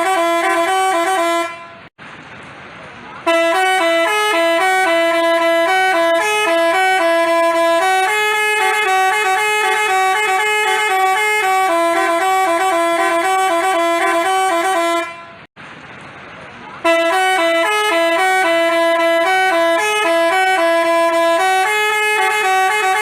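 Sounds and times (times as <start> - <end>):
multi-tone bus horn playing a tune: 0.0 - 1.9, 3.2 - 15.5, 16.8 - 23.0.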